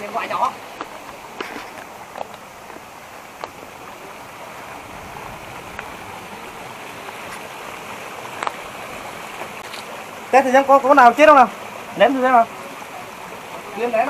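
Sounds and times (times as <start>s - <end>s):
creek water flowing over rocks: 0.0s - 14.0s.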